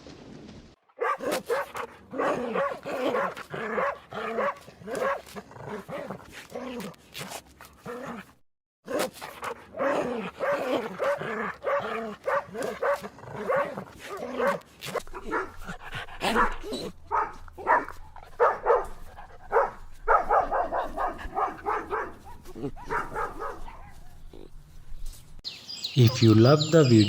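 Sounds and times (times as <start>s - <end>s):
dogs barking: 1.0s - 6.2s, 8.9s - 24.5s, 25.7s - 27.0s.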